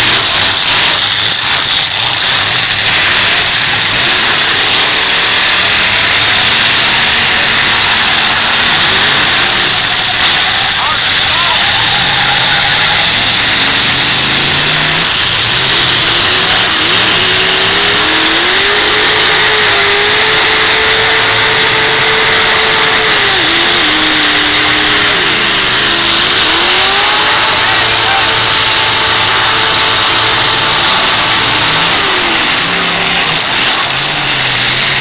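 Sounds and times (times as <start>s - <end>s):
car engines revving hard: 0.0s - 35.0s.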